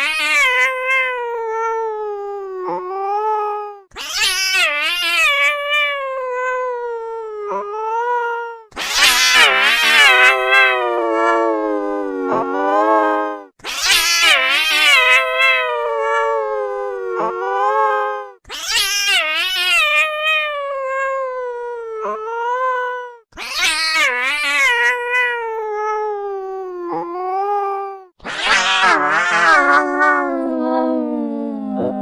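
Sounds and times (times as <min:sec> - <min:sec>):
angry cat yowling: 0:00.0 - 0:32.0.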